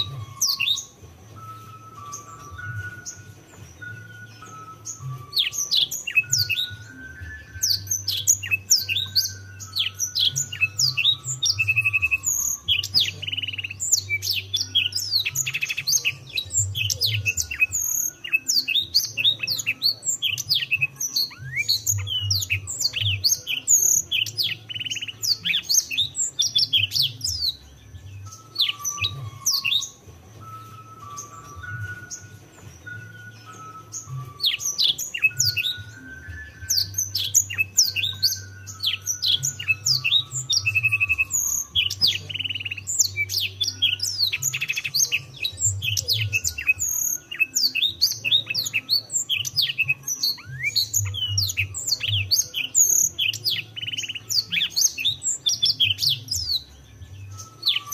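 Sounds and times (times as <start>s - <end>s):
canary singing: 0.0s - 57.9s.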